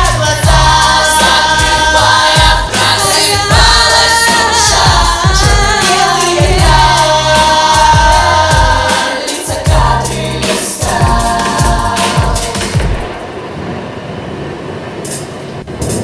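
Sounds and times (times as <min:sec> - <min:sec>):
children singing in harmony: 0:00.0 - 0:13.2
pop backing track with beat: 0:00.0 - 0:13.2.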